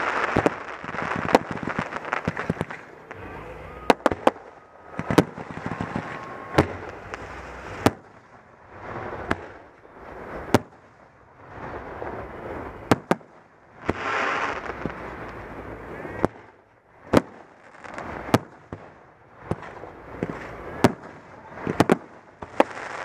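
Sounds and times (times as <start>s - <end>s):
fireworks bangs: 0.0s - 23.0s
fireworks crackling: 0.0s - 23.0s
hissing crackle: 0.0s - 23.0s.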